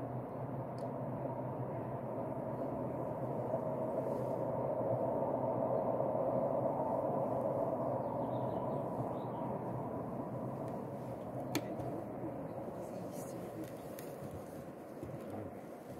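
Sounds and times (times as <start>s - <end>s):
distant train rumbling: 0.0s - 15.9s.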